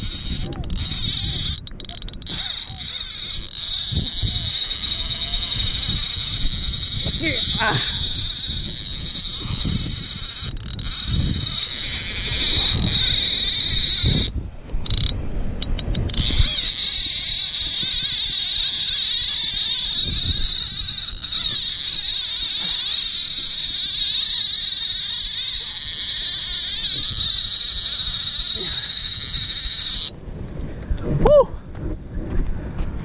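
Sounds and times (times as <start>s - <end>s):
fishing reel drag buzzing: 0.0s - 30.1s
wind rumble on microphone: 0.0s - 33.0s.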